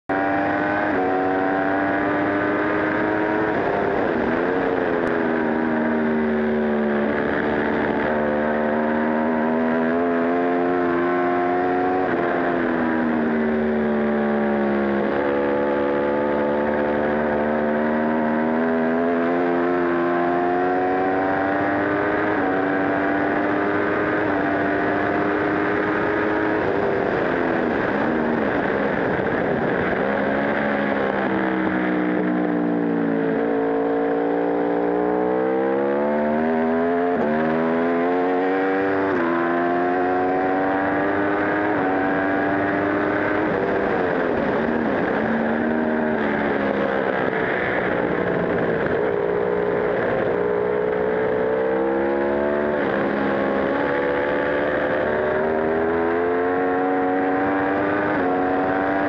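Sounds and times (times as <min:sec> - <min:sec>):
motorcycle engine revving through gears: 0:00.0 - 0:59.0
wind noise: 0:00.1 - 0:59.0.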